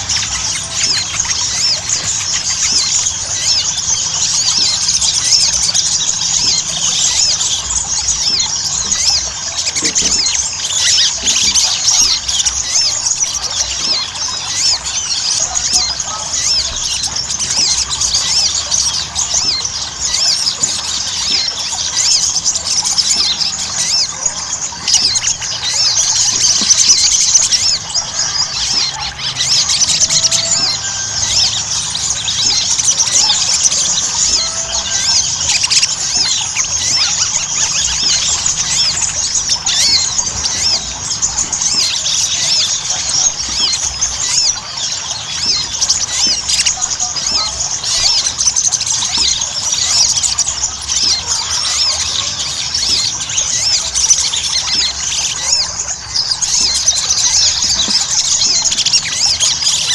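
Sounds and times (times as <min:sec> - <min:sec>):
bird twittering chatter: 0:00.0 - 0:59.9.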